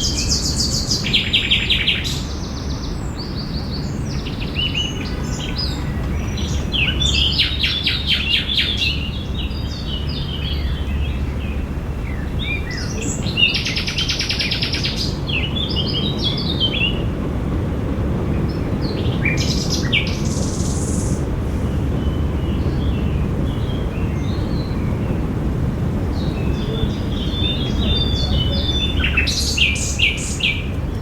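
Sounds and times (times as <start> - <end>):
low background rumble: 0.0 - 31.0
songbirds singing and chirping: 0.0 - 31.0.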